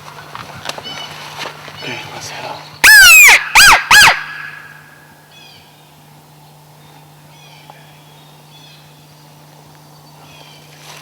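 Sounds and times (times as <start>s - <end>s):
steady low hum: 1.6s - 10.4s.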